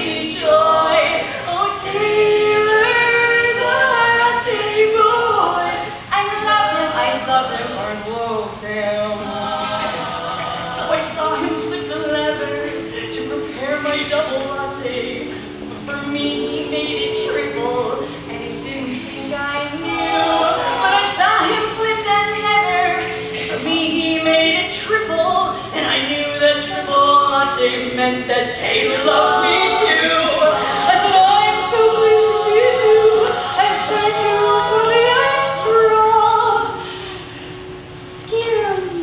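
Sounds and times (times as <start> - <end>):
women singing close harmony: 0.0 - 39.0.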